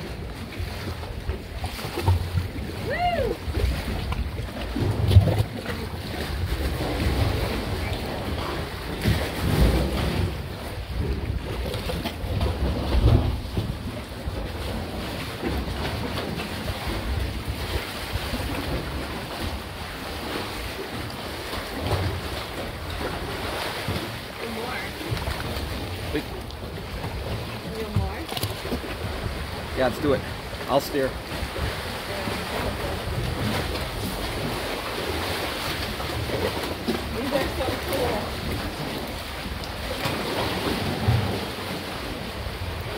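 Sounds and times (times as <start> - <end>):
water lapping: 0.0 - 42.9
wind rumbling on microphone: 0.0 - 42.9.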